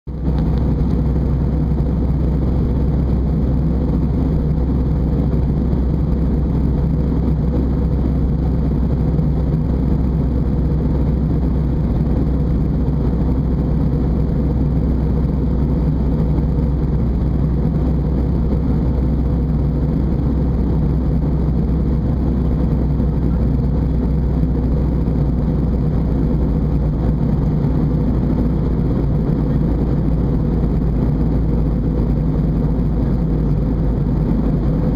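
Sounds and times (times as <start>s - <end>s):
airplane cabin engine drone: 0.1s - 34.9s.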